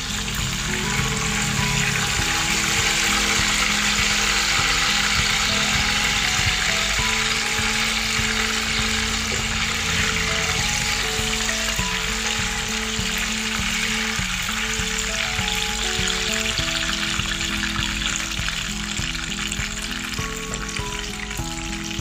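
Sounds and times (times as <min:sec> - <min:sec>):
background music: 0:00.0 - 0:22.0
oil sizzling in a pan: 0:00.0 - 0:22.0.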